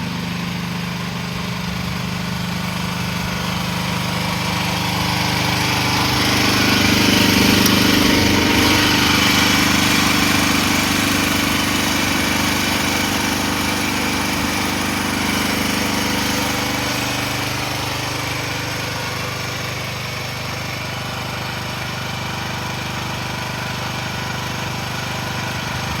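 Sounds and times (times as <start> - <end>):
mini excavator engine running: 0.0 - 26.0.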